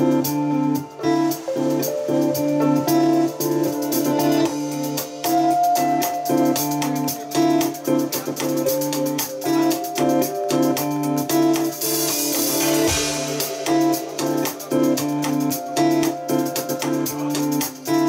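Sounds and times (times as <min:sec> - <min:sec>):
drum kit with rapid high ticks: 0:00.0 - 0:18.0
synthesizer and keyboard chords: 0:00.0 - 0:18.0.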